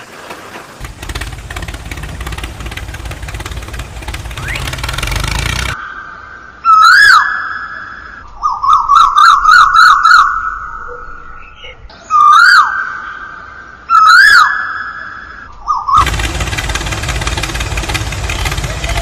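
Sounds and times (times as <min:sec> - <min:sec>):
bird calls rising and falling: 0:00.8 - 0:19.0.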